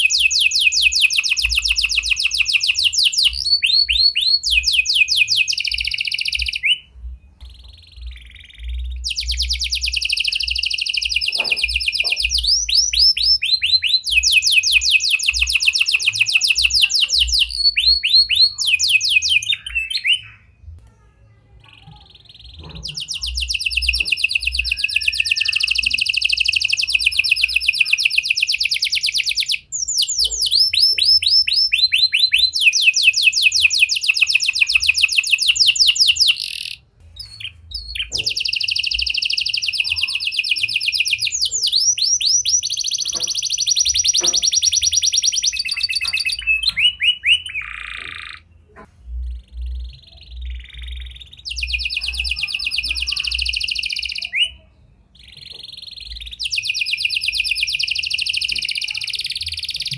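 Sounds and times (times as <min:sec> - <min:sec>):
canary singing rapid trills: 0:00.0 - 0:20.6, 0:21.7 - 0:59.9.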